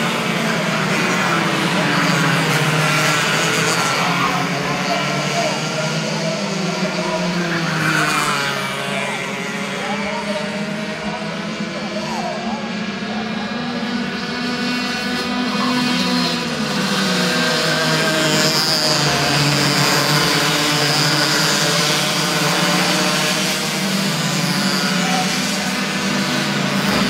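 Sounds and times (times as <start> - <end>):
kart engines buzzing: 0.0 - 27.0.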